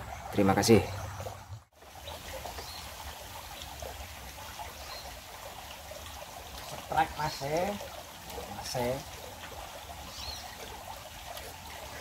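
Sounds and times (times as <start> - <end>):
river water babbling: 0.0 - 12.0.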